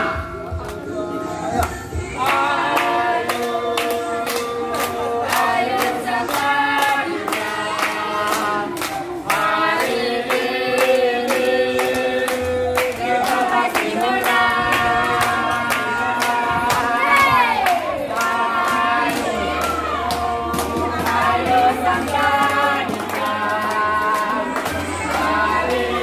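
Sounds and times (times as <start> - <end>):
group singing a cheer song: 0.0 - 26.0
people clapping along: 0.0 - 26.0.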